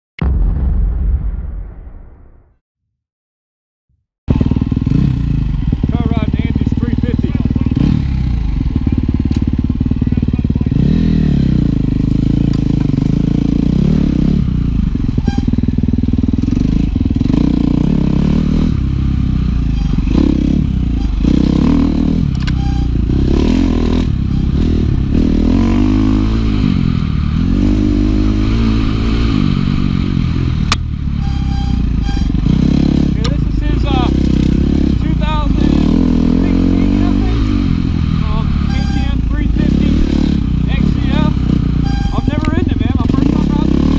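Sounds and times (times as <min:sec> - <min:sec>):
dirt bike engine revving: 0:04.3 - 0:43.9.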